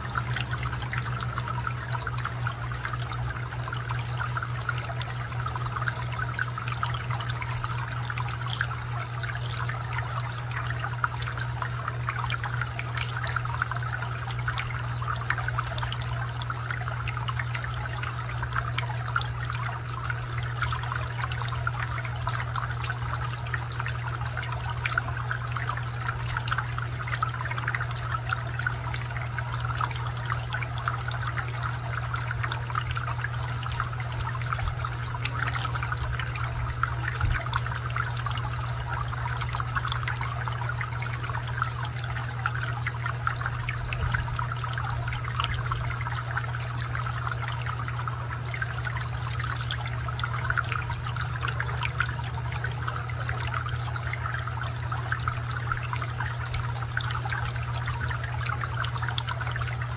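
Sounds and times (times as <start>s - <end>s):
fountain trickling and splashing: 0.0s - 59.9s
low steady hum: 0.0s - 59.9s.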